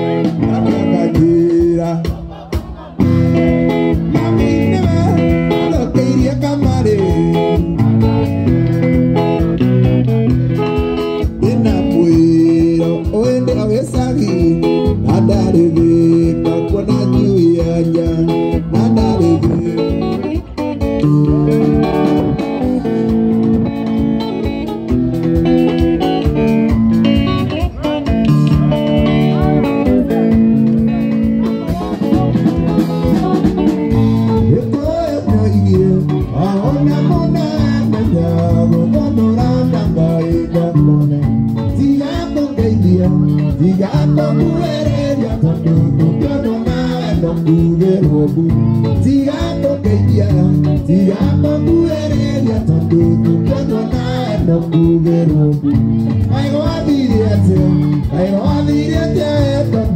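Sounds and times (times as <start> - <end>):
drum kit: 0.0 - 59.9
electric guitar melody: 0.0 - 59.9.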